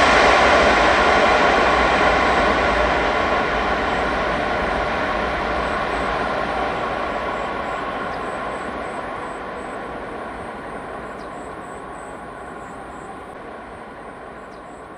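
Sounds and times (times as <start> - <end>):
jet engines roaring: 0.0 - 14.9.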